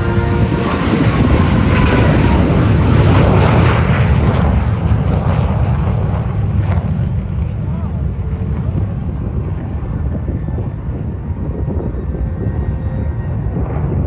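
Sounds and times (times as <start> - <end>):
jet roaring past: 0.0 - 14.0.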